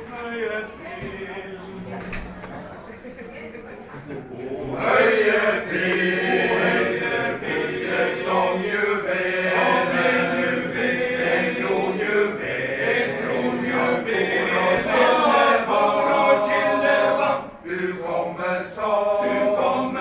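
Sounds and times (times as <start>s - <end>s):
male choir singing a cappella: 0.0s - 2.2s, 4.3s - 20.0s.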